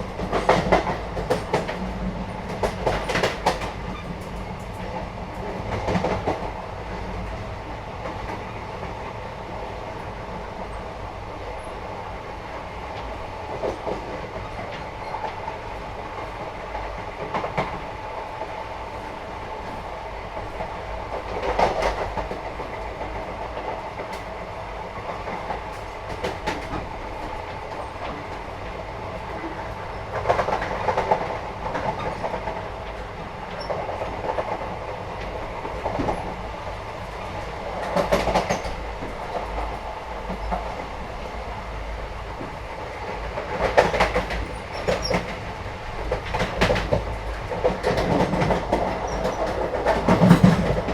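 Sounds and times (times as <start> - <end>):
train carriage rumbling on rails: 0.0 - 50.9.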